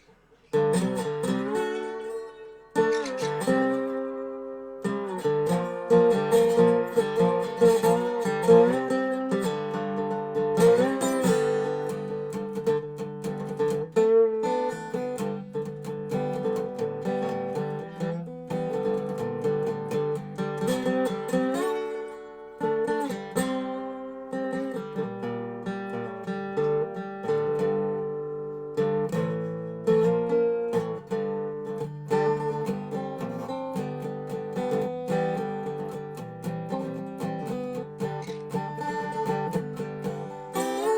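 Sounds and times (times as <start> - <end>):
resonator guitar picked and slid: 0.0 - 40.9.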